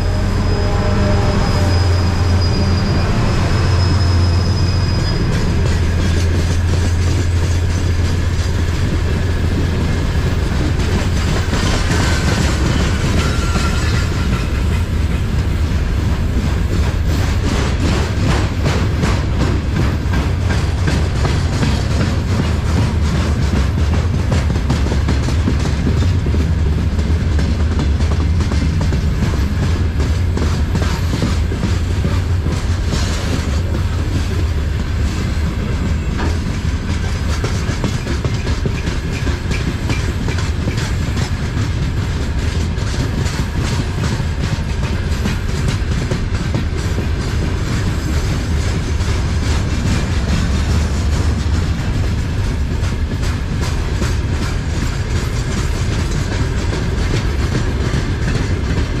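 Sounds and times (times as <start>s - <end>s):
train wheels clattering over rails: 0.0s - 59.0s.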